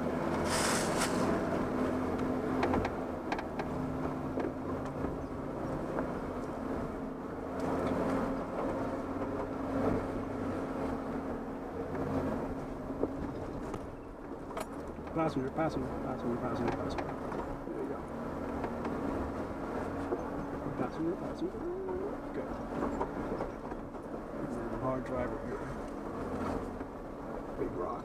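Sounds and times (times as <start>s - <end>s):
tyres and chassis creaking: 0.0s - 28.0s
vehicle engine at low revs: 0.0s - 28.0s.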